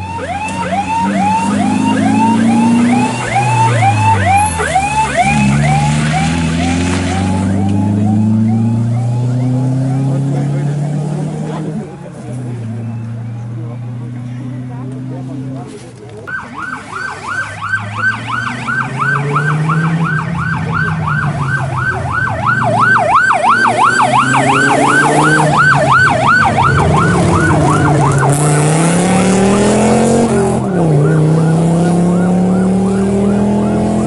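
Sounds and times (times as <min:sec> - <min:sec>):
siren wailing: 0:00.0 - 0:10.7, 0:16.3 - 0:34.0
car engine pulling away: 0:00.0 - 0:34.0.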